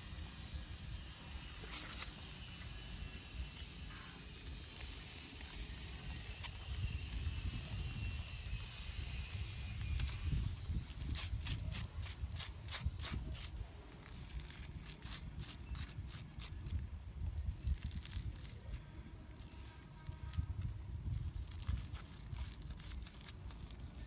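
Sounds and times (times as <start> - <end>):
crackling charred fish skin: 0.1 - 24.0.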